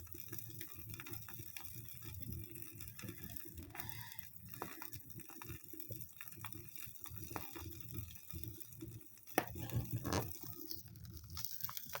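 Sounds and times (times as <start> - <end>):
low rumble of flame: 0.0 - 12.0
wood fire crackling: 0.0 - 12.0.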